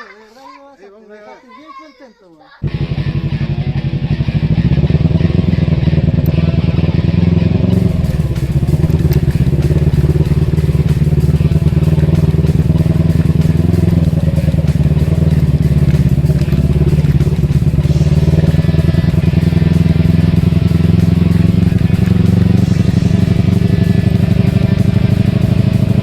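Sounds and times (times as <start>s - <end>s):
motorcycle engine running: 2.6s - 26.0s.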